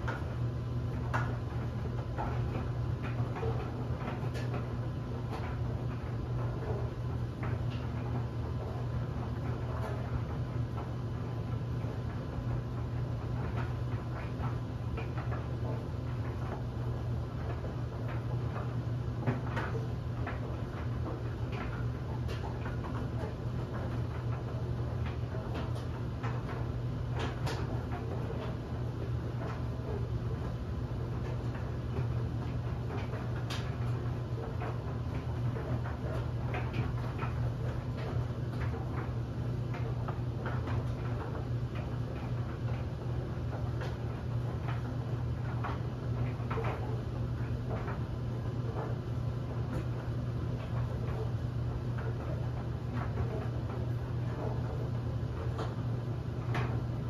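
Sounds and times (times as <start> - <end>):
dryer low hum: 0.0 - 57.0
laundry tumbling ticks and taps: 0.0 - 57.0.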